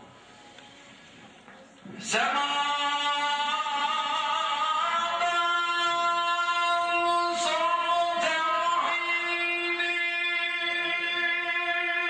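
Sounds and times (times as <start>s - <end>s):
man chanting into a microphone: 1.9s - 12.0s.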